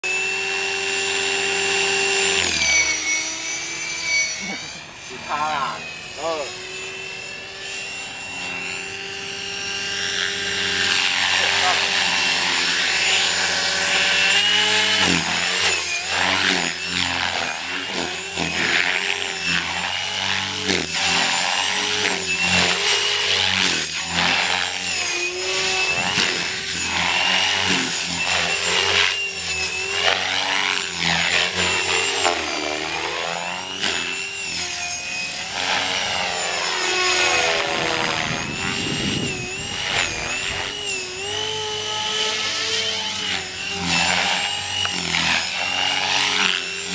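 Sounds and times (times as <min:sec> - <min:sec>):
model helicopter motor whine: 0:00.0 - 0:46.9.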